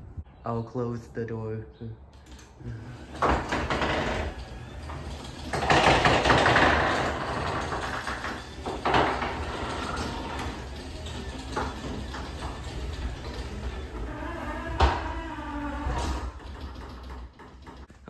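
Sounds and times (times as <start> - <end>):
garage door opener motor hum: 2.2 - 17.9
garage door rattling: 2.2 - 18.0.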